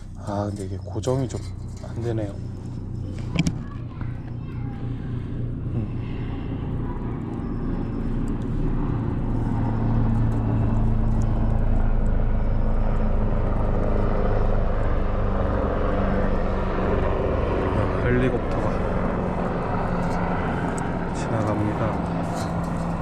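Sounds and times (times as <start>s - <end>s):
helicopter flying overhead: 0.0s - 23.0s.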